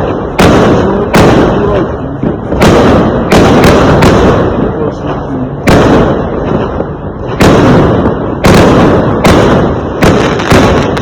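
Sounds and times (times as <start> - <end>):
fireworks bangs with rumble: 0.0 - 11.0.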